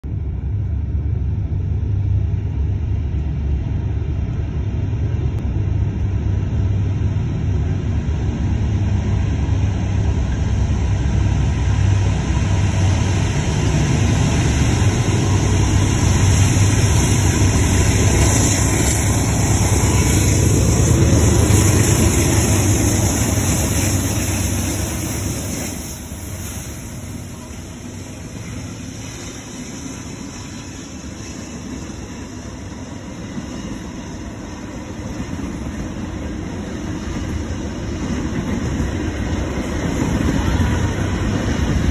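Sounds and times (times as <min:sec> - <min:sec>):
diesel locomotive engine rumble: 0:00.0 - 0:41.9
train cars rolling rumble: 0:00.0 - 0:41.9.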